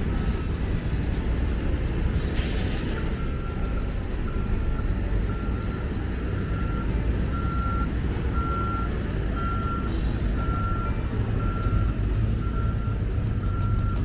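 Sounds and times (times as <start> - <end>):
low engine rumble: 0.0 - 14.0
reversing alarm beeping: 2.4 - 14.0.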